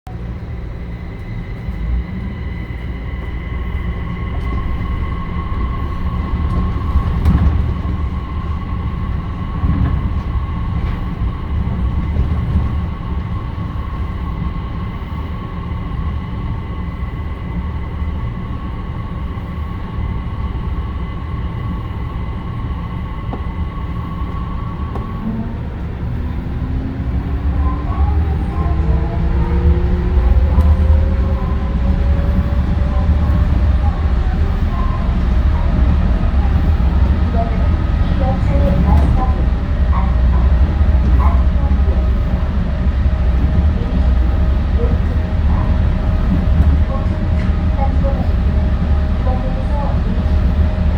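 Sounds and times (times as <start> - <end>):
train rumbling: 0.0 - 50.9
train whine: 0.1 - 50.9.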